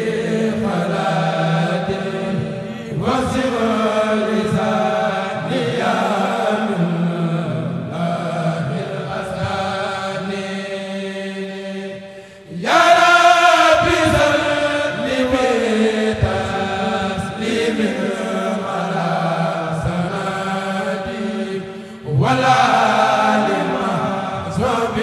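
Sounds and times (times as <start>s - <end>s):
group chanting in long held lines: 0.0s - 25.0s.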